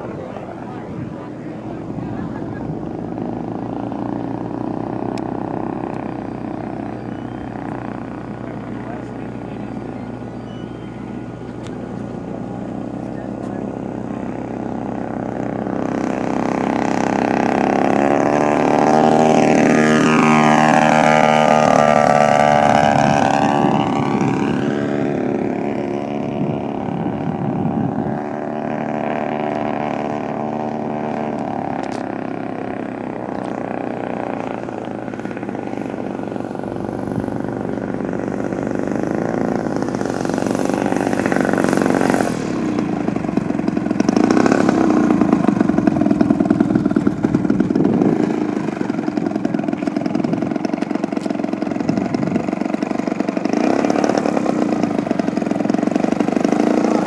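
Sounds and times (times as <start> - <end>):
model plane engine flying past: 0.0 - 57.0.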